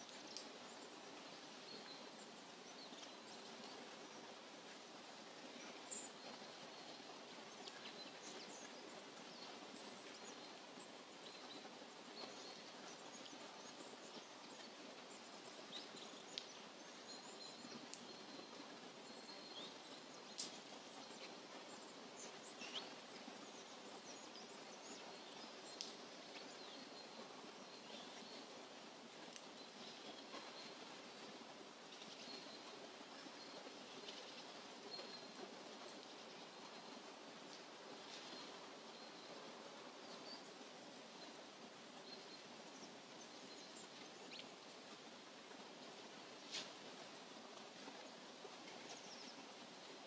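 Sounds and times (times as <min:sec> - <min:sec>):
soft steady hiss: 0:00.0 - 0:50.0
songbirds chirping: 0:00.0 - 0:50.0.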